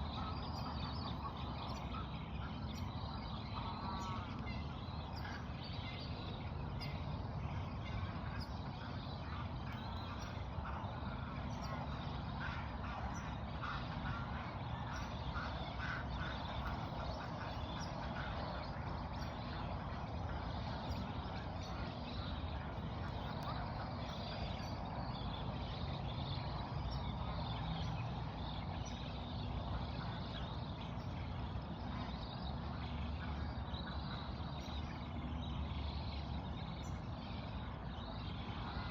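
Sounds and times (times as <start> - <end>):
ducks quacking: 0.0 - 38.9
other bird calls: 0.0 - 38.9
steady low rumble: 0.0 - 38.9.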